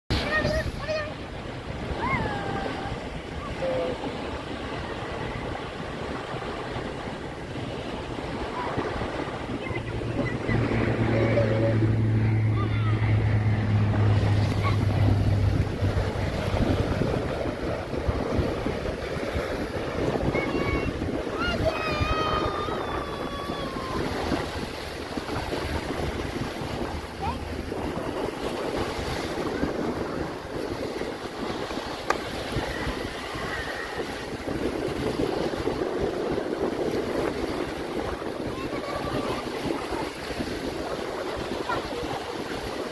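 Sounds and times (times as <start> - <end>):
small waves breaking on shore: 0.1 - 42.9
wind buffeting microphone: 0.1 - 42.9.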